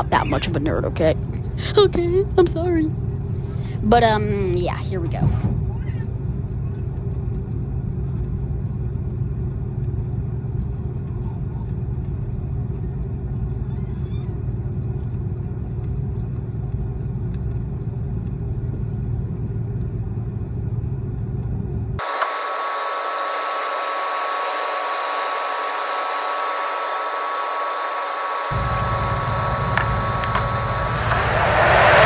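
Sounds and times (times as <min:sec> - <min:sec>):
jet engines rumbling in cabin: 0:00.0 - 0:32.0.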